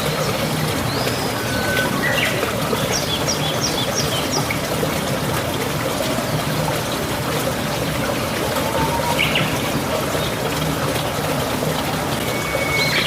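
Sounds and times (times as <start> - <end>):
trickling water: 0.0 - 13.0.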